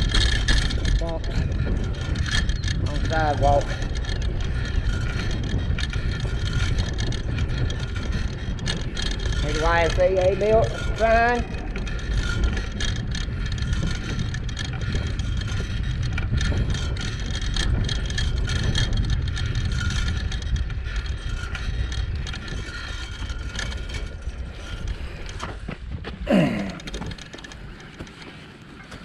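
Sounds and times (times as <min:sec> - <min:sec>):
road noise: 0:00.0 - 0:29.0
wind rumble on microphone: 0:00.0 - 0:29.0.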